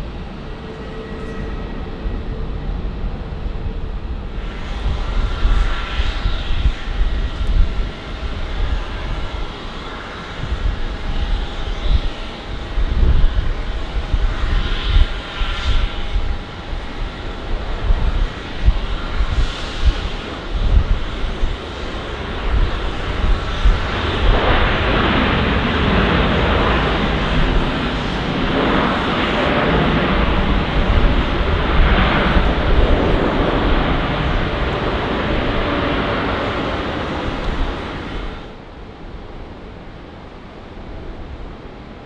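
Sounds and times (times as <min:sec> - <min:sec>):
wind buffeting microphone: 0:00.0 - 0:39.9
jet engines at high thrust: 0:00.0 - 0:42.0.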